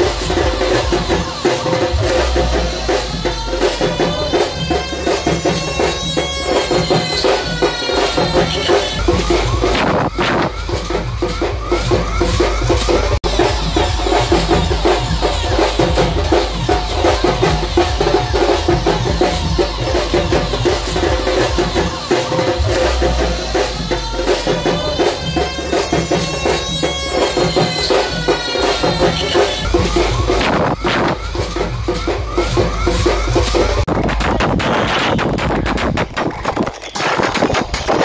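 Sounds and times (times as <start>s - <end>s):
fast dense drum beat: 0.0s - 38.0s.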